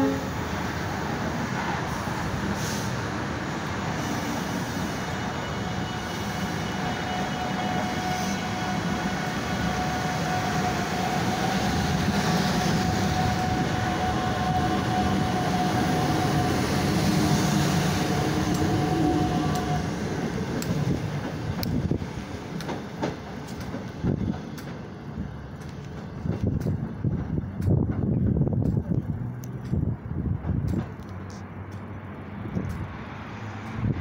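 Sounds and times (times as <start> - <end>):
wheel and track rumble: 0.0 - 34.0.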